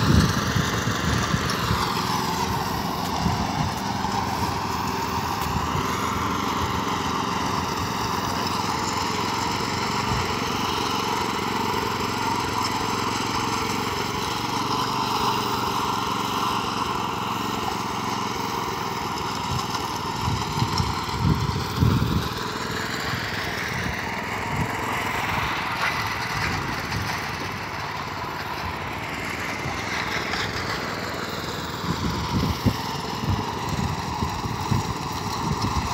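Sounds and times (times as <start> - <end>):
power trowel engine running: 0.0 - 35.9.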